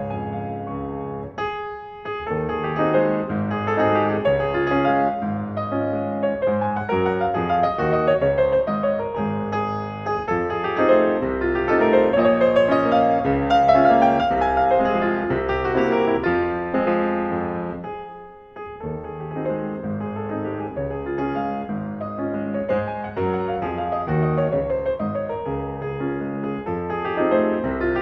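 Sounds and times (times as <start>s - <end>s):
solo piano waltz: 0.0s - 28.0s.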